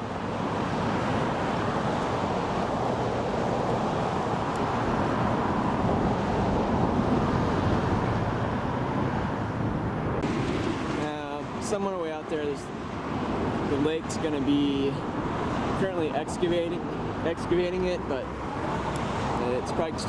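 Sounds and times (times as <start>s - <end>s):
wind buffeting microphone: 0.0s - 17.5s
road traffic rumble: 0.0s - 20.0s.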